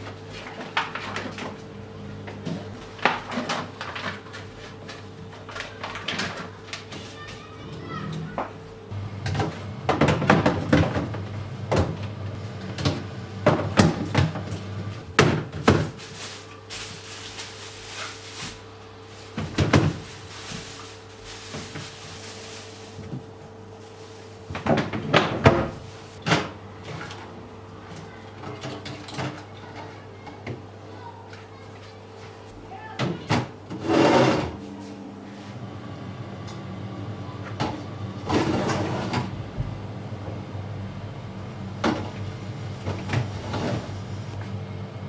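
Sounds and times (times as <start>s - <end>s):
knocks and clatters of household items: 0.0s - 30.7s, 32.9s - 35.0s, 37.4s - 40.4s, 41.8s - 44.6s.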